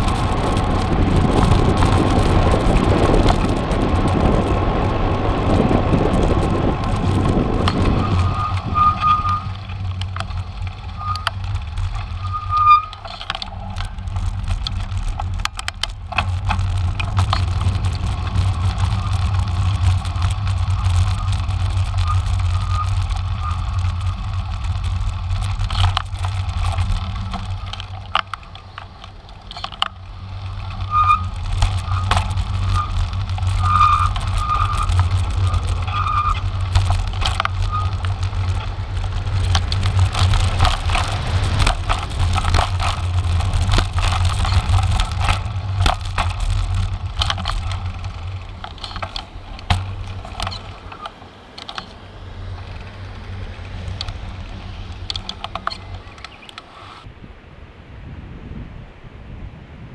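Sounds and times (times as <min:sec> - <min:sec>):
bike rattling on rough lane: 0:00.0 - 0:57.1
wind rumbling on microphone: 0:00.0 - 0:59.9.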